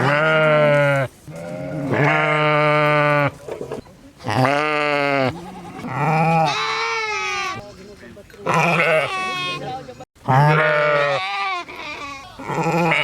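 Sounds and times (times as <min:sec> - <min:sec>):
sheep bleating: 0:00.0 - 0:03.4, 0:04.3 - 0:07.6, 0:08.5 - 0:09.7, 0:10.3 - 0:13.0.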